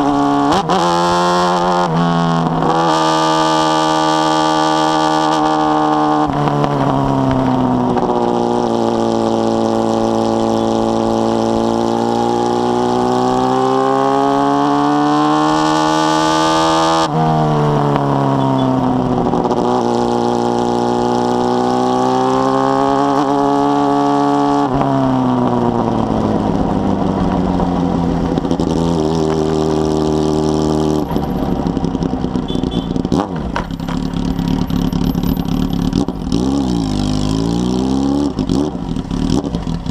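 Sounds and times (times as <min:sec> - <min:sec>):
motorcycle engine accelerating: 0:00.0 - 0:39.9
road noise: 0:00.0 - 0:39.9.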